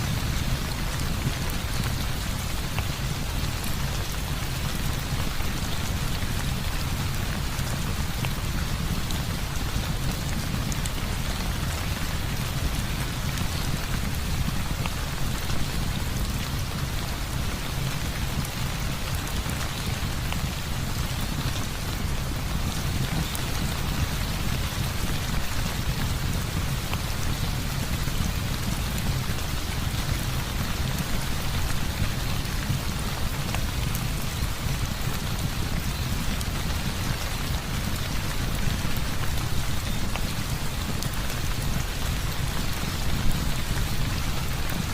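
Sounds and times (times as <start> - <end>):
heavy rain hissing: 0.0 - 44.9.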